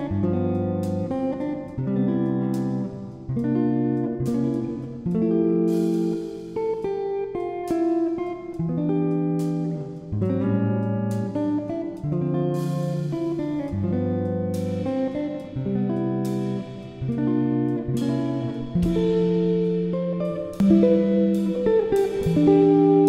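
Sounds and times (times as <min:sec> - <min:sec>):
plucked guitar notes: 0:00.0 - 0:23.0.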